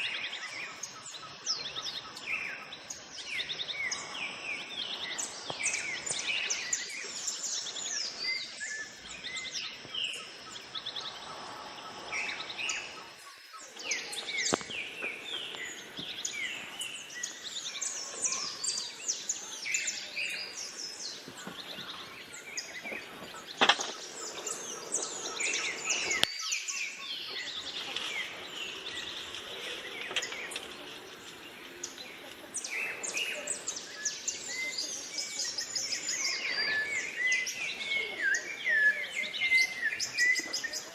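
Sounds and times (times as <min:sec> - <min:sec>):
background hiss: 0:00.0 - 0:40.9
birds chirping and trilling: 0:00.0 - 0:40.9.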